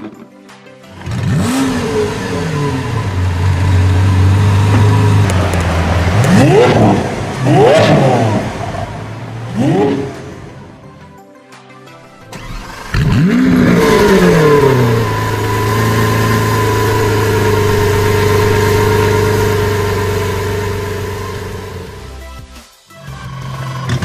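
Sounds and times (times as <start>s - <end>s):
car engine starting and idling: 0.9s - 10.9s, 12.2s - 22.4s.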